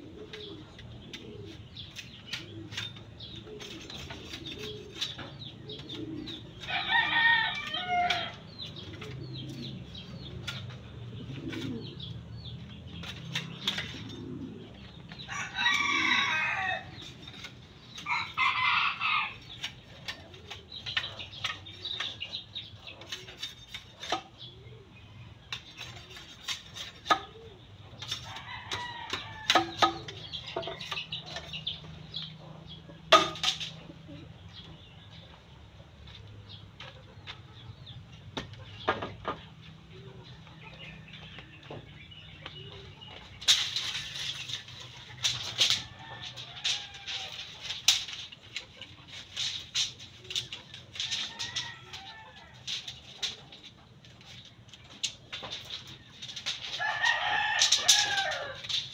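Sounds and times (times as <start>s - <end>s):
chicken calls: 0.0s - 58.9s
roosters crowing: 2.2s - 34.3s, 38.7s - 58.9s.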